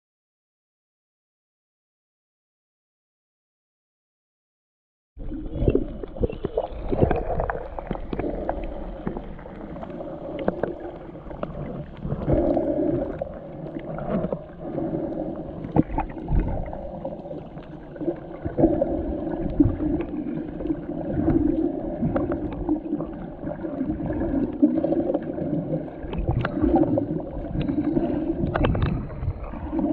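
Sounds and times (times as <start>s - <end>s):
underwater water sloshing: 5.2s - 29.9s.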